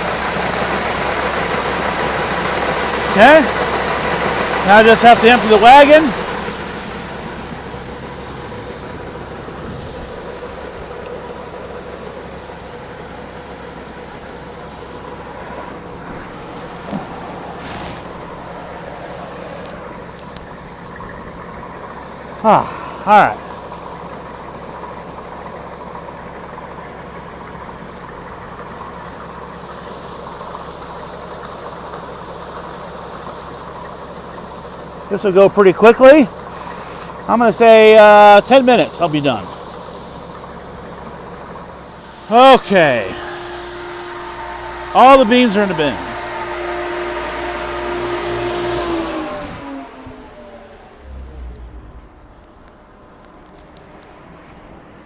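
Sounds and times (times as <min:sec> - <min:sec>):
farm machinery engine running: 0:00.0 - 0:55.0.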